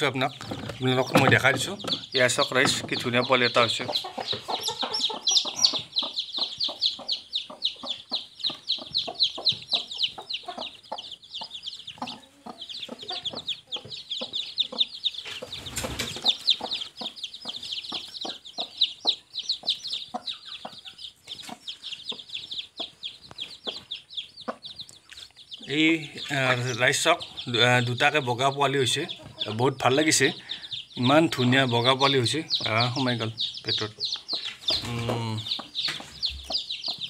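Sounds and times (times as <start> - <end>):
chicks peeping: 0.0 - 37.0
hen clucking: 0.0 - 37.0.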